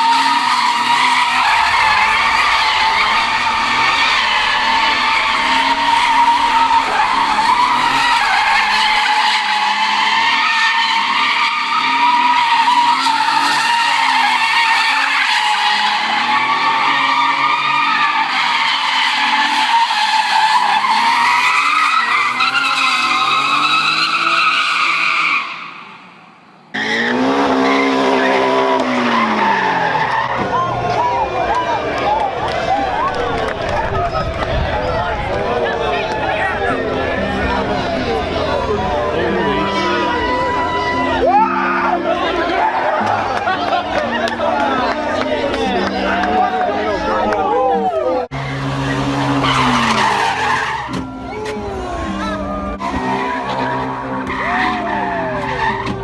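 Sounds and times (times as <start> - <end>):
car engine revving: 0.0 - 47.5, 48.1 - 56.0
car tyres squealing: 0.0 - 56.0.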